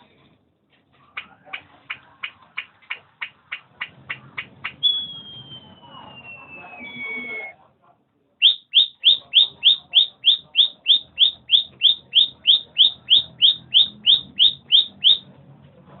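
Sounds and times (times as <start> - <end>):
bird chirping: 1.2 - 7.5, 8.4 - 15.2.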